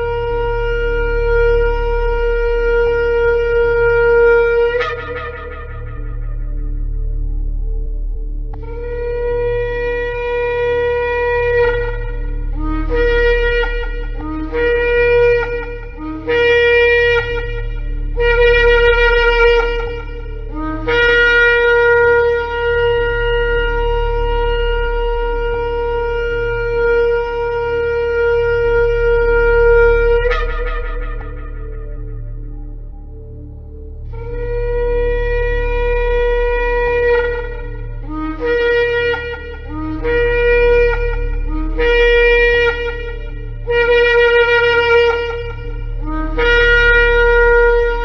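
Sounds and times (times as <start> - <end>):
ram's horn blasts: 0.0 - 48.0.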